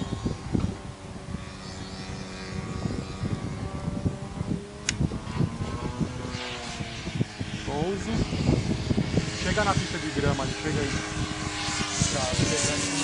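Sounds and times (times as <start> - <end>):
model plane engine overhead: 0.0 - 13.0.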